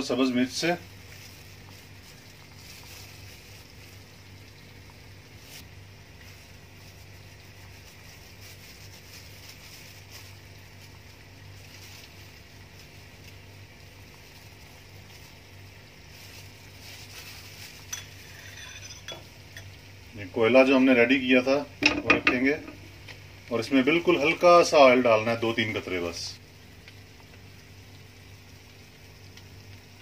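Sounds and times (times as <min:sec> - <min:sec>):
food sizzling in a wok: 0:00.0 - 0:30.0.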